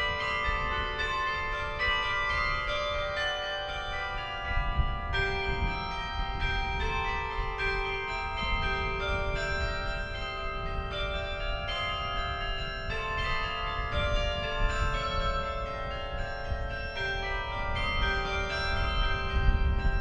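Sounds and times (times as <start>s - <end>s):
carillon bells playing melody: 0.0s - 20.0s.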